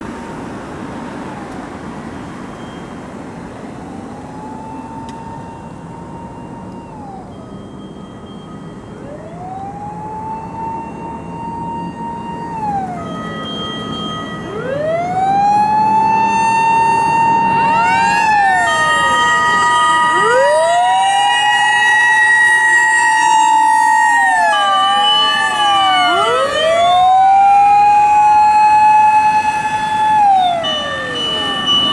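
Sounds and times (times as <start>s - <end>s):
low truck engine hum: 0.0s - 31.9s
mechanical motor sirens wailing: 1.1s - 31.9s.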